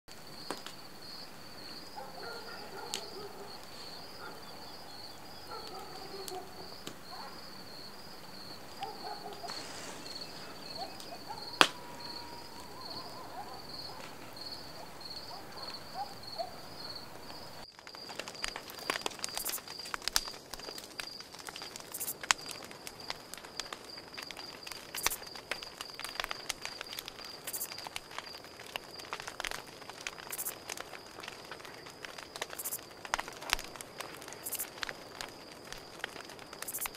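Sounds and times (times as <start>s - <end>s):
crickets chirping: 0.1s - 36.9s
wood fire crackling: 0.1s - 36.9s.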